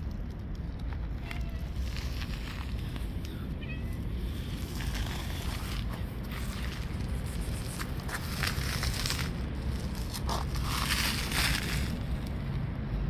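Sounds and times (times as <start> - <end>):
steady low rumble: 0.0 - 13.0
footsteps on gravel and leaves: 1.1 - 3.3, 4.0 - 12.6.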